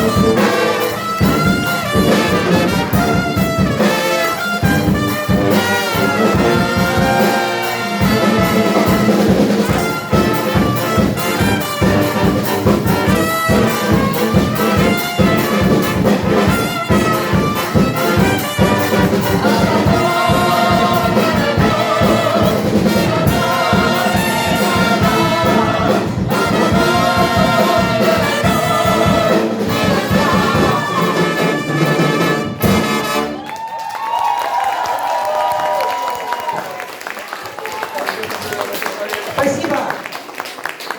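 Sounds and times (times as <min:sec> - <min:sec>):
fast drum beat: 0:00.0 - 0:33.2
brass instrumental music: 0:00.0 - 0:33.6.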